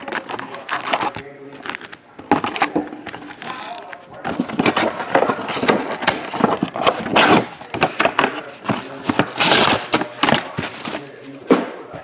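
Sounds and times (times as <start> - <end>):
plastic wrapper crinkling: 0.0 - 11.3.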